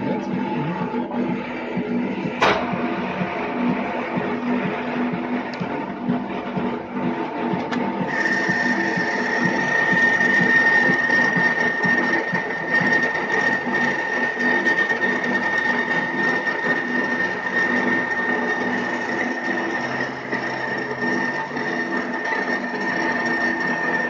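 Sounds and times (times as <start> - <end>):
high-pitched whine: 0.0 - 24.0
lathe tool cutting metal: 0.0 - 24.0
metal lathe humming: 0.0 - 24.0.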